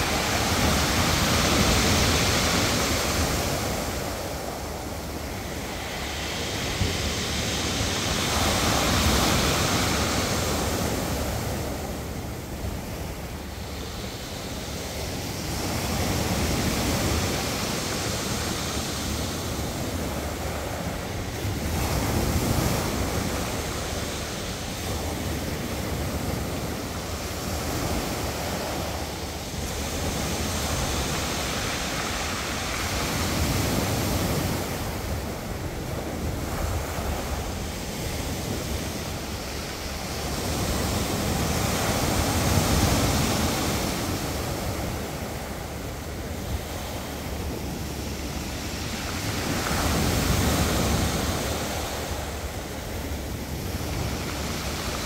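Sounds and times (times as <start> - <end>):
sea waves washing on beach: 0.0 - 55.0
wind rumble on microphone: 0.0 - 55.0.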